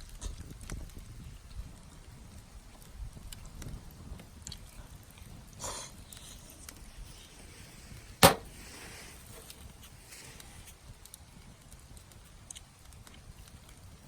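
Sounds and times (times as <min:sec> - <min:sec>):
campfire crackling: 0:00.0 - 0:14.0
firewood popping: 0:00.0 - 0:14.0
soft rustle: 0:00.0 - 0:14.0.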